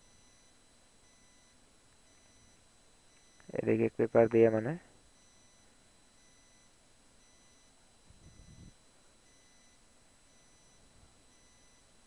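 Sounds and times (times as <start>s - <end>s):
faint pulsing high-pitched tone: 0.0s - 12.0s.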